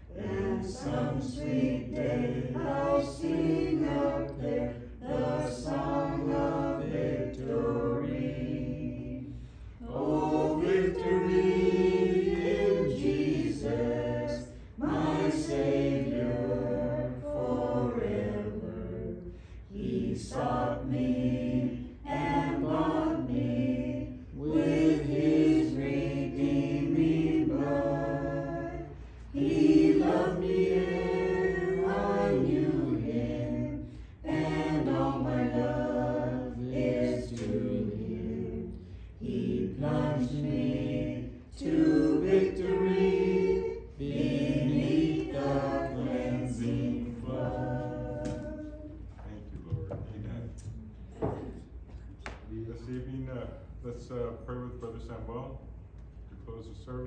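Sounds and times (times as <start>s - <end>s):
congregation singing a hymn: 0.0s - 50.5s, 51.1s - 52.0s.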